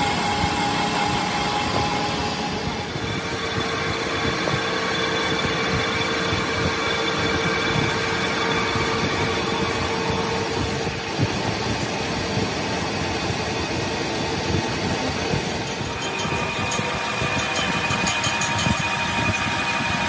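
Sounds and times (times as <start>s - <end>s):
grinding machine grinding with whine: 0.0s - 20.0s.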